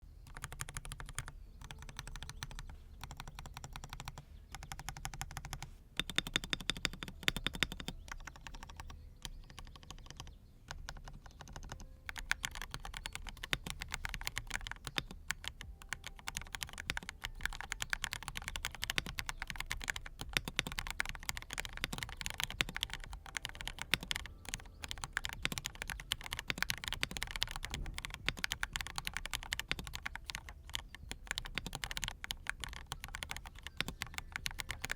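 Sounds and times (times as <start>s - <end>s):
typing on mechanical keyboard: 0.2s - 34.9s.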